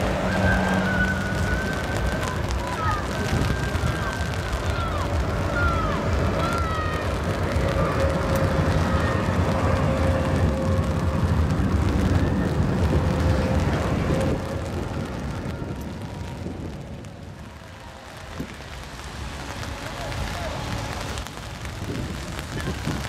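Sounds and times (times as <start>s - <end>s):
tram traction whine: 0.0s - 23.0s
tram wheels rumbling on rails: 0.0s - 23.0s.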